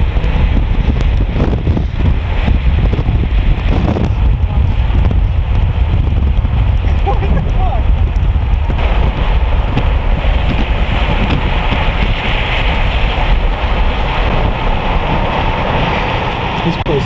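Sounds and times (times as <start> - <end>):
car road noise: 0.0 - 17.0
deep rumble: 0.0 - 17.0
rushing wind: 0.0 - 17.0.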